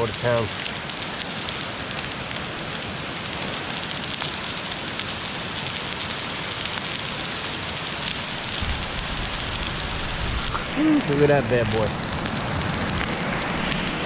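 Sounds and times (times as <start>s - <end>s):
steak sizzling in a skillet: 0.0s - 14.0s.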